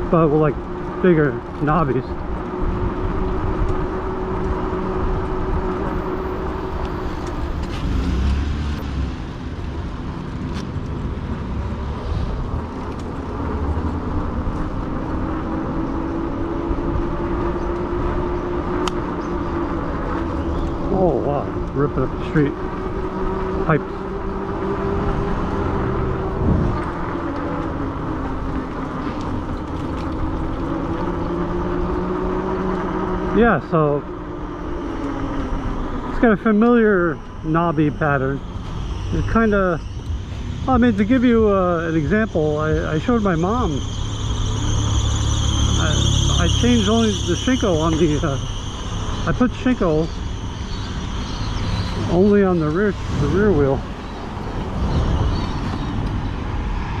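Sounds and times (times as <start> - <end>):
wind rumble on microphone: 0.0 - 33.4, 34.0 - 57.0
e-bike motor hum: 0.0 - 57.0
vehicle engine with loud exhaust: 0.0 - 57.0.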